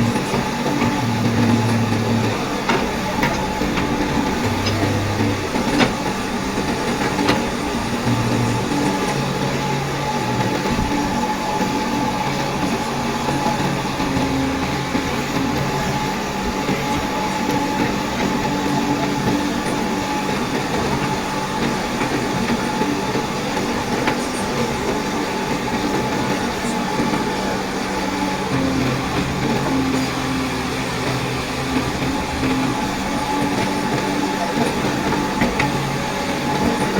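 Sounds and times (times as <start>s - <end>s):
heavy vehicle running: 0.0s - 36.9s.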